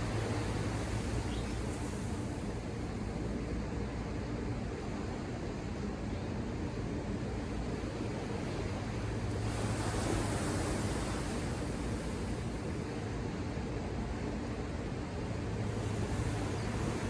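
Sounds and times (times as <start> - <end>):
low rumble of sea: 0.0 - 17.0.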